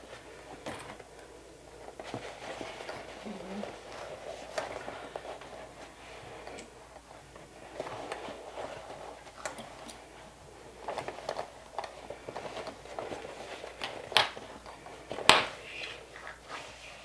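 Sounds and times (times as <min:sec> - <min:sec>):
fabric and bag rustling: 0:00.0 - 0:17.0.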